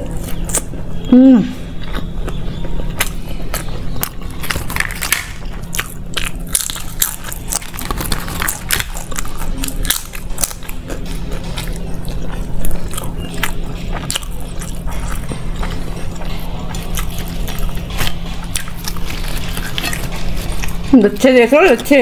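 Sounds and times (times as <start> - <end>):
chewing crisp flatbread: 0.0 - 22.0
steady low hum: 0.0 - 22.0
flatbread tearing crackles: 3.0 - 20.9.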